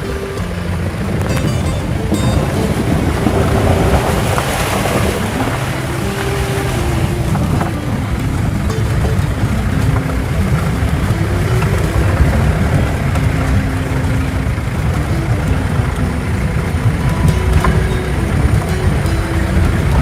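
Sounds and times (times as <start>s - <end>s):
jeep engine rumbling: 0.0s - 20.0s.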